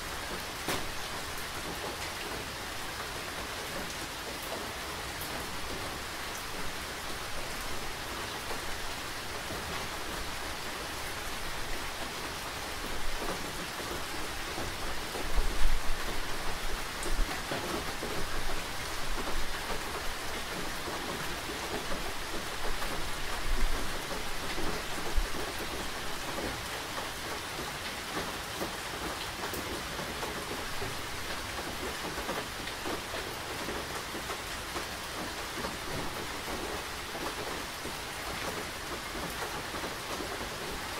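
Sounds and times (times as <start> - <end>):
rain pattering on surfaces: 0.0 - 40.9.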